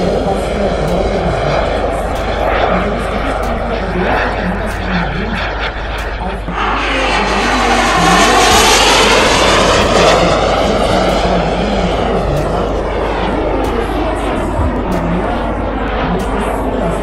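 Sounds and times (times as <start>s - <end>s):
model jet roaring past: 0.0s - 17.0s.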